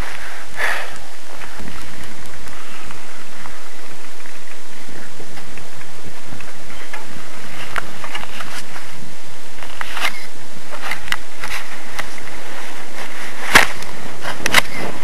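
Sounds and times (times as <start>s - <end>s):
crackles: 0.0s - 15.0s
wind on microphone: 0.0s - 15.0s.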